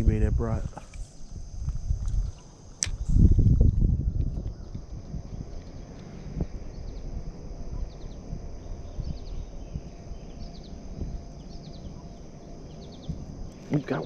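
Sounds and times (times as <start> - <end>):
low rumbling: 0.0 - 14.0
small bird chirping: 1.0 - 14.0.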